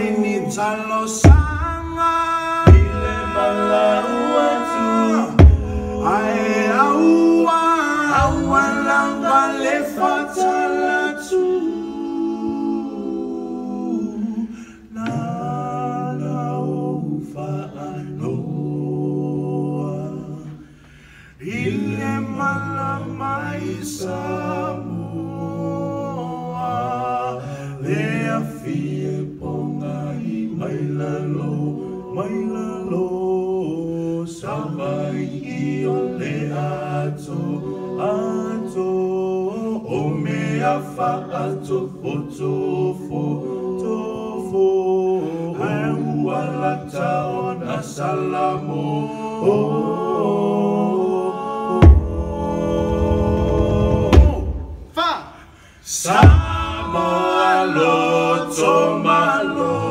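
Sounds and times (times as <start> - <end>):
men singing in harmony: 0.0 - 20.8, 21.4 - 54.9, 55.9 - 59.9.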